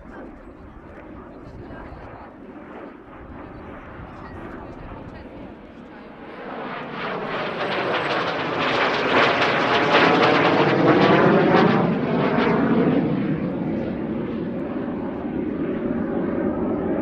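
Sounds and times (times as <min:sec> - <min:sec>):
jet passing overhead: 0:00.0 - 0:17.0.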